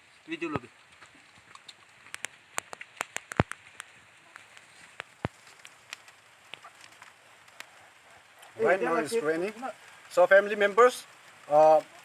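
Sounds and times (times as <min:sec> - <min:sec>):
faint rain hiss: 0:00.0 - 0:12.0
raindrops ticking on hard surface: 0:00.0 - 0:12.0.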